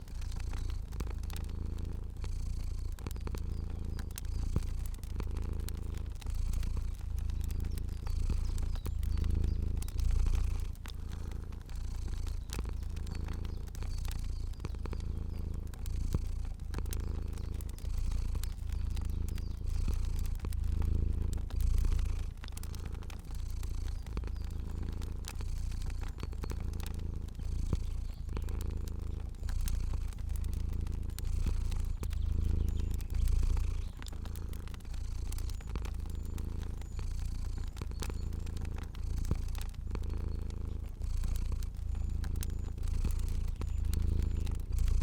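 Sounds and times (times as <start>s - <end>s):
cat purring: 0.0s - 45.0s
fire crackling: 0.0s - 45.0s.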